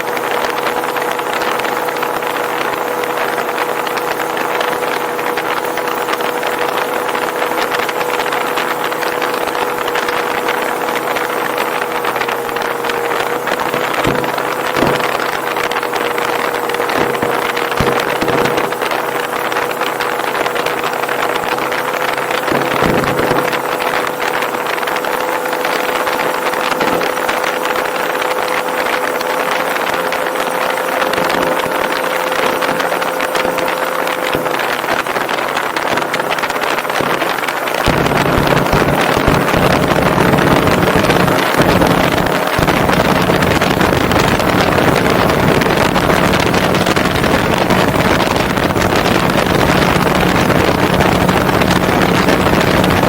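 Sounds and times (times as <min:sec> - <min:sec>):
boat engine running: 0:00.0 - 0:53.0
rushing water noise: 0:00.0 - 0:53.0.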